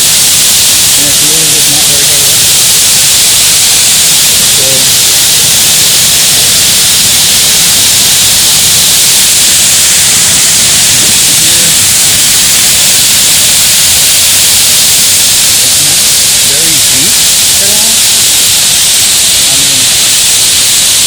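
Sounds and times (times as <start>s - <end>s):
waterfall rushing over rock: 0.0s - 21.0s.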